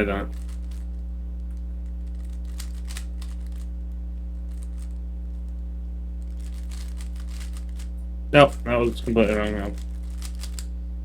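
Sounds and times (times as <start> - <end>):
low electrical hum: 0.0 - 11.0
rubik's cube plastic clicks: 0.3 - 3.7, 4.4 - 5.4, 6.2 - 10.7.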